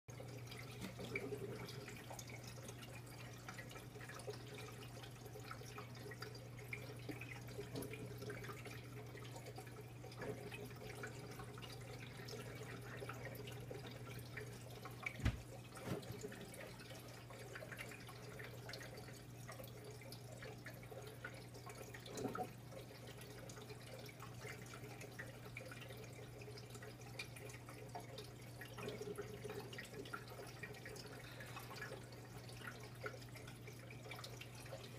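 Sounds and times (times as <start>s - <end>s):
aquarium water trickling: 0.1s - 34.9s
tank pump humming: 0.1s - 34.9s.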